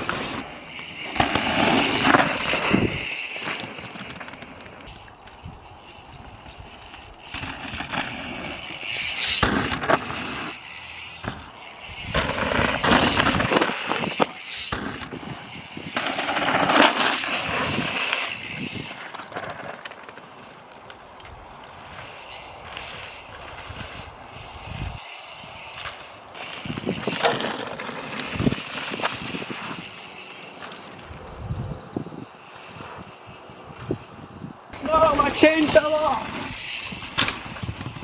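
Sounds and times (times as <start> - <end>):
bike tyres on rough trail: 0.0 - 38.0
rushes of noise: 0.0 - 38.0.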